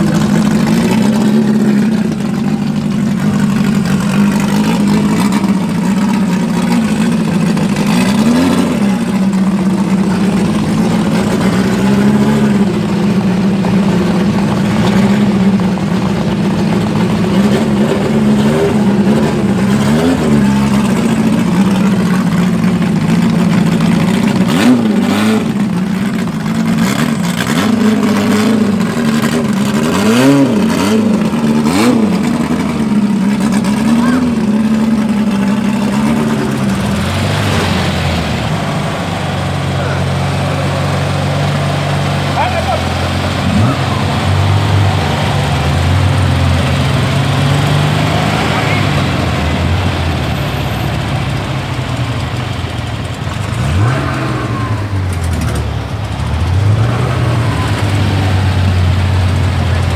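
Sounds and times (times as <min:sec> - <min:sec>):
race car engine idling and revving: 0:00.0 - 0:59.9.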